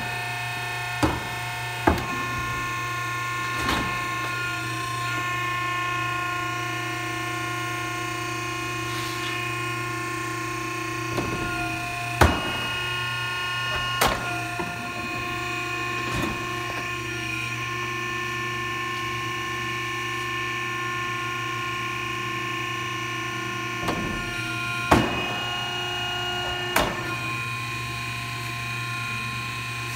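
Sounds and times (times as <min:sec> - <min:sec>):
steady motor hum: 0:00.0 - 0:29.9.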